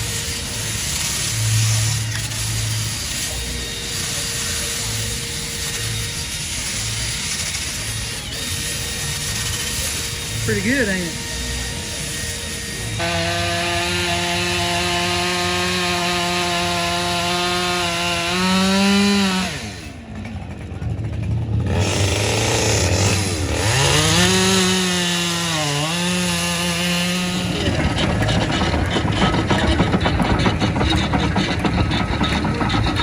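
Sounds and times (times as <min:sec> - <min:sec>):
chainsaw cutting at high revs: 0:00.0 - 0:33.0.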